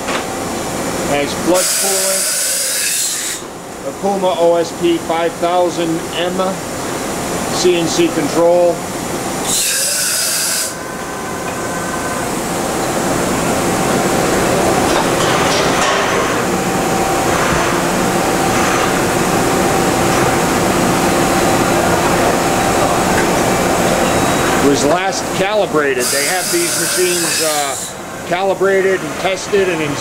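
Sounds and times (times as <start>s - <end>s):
machine hum with held tones: 0.1s - 28.3s.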